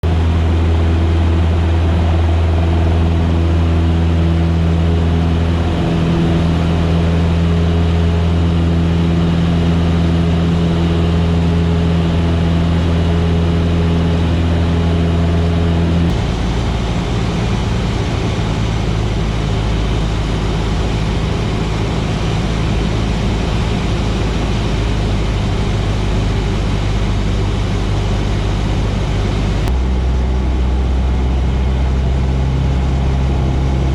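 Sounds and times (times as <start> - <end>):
aircraft engine droning: 0.0 - 33.9.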